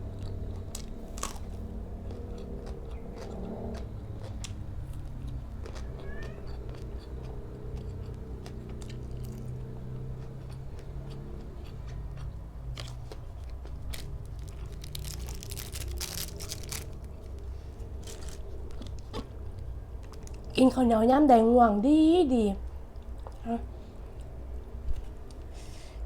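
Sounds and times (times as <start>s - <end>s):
chewing and crunching food: 0.0s - 20.7s, 22.6s - 26.0s
steady low hum: 0.0s - 26.0s.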